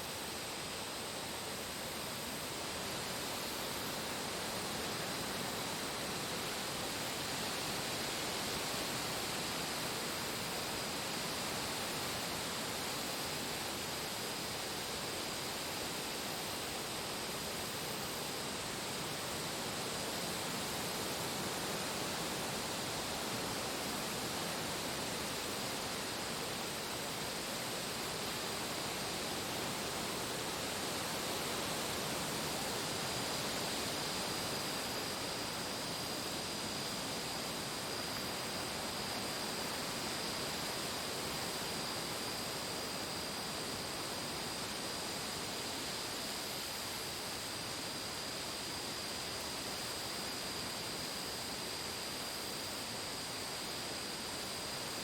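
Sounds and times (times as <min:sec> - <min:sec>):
wind through trees: 0:00.0 - 0:55.0.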